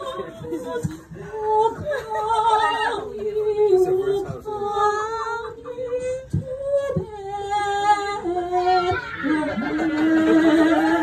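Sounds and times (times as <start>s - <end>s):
woman singing a cappella: 0.0s - 11.0s.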